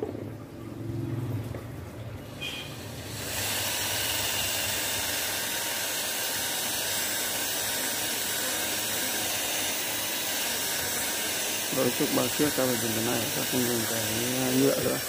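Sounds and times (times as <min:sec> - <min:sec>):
steady hiss: 0:02.8 - 0:15.0.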